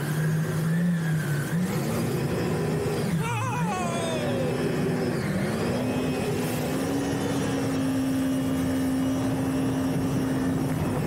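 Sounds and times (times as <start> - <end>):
jet ski engine running: 0.0 - 11.0
wind: 0.0 - 11.0.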